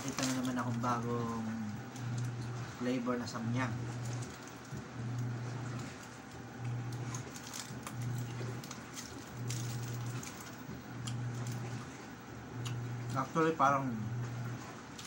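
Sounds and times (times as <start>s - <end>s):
pulsing low hum: 0.0s - 14.6s.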